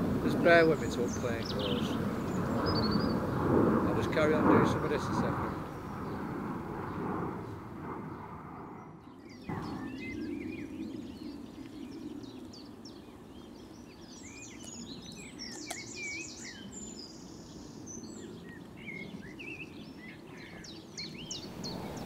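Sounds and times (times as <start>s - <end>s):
distant aeroplane rumble: 0.0s - 22.0s
small birds chirping: 0.0s - 22.0s.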